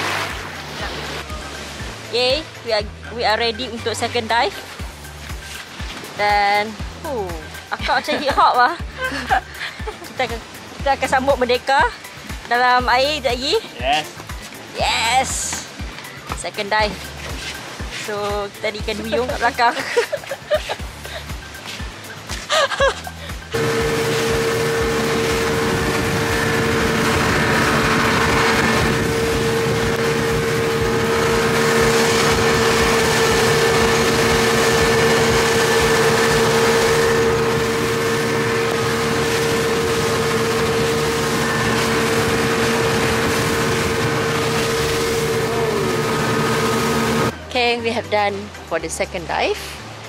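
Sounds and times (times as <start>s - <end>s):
wind and water rushing: 0.0s - 47.5s
boat engine humming: 0.0s - 50.0s.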